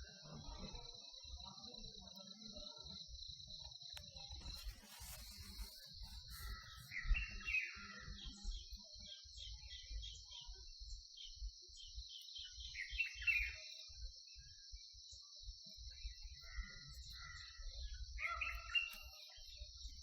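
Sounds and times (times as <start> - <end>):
insects trilling: 0.0 - 14.8, 15.7 - 20.0
small birds chirping: 3.7 - 20.0.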